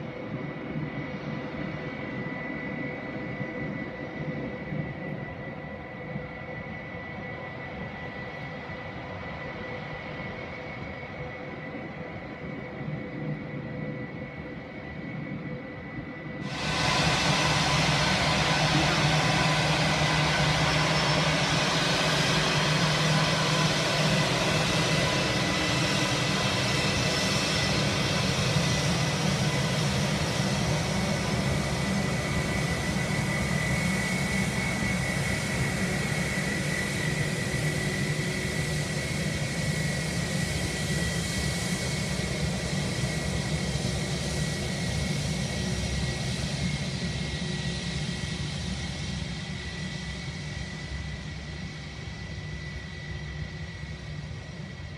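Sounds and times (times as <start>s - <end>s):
jet engines rumbling and whining: 0.0s - 54.9s.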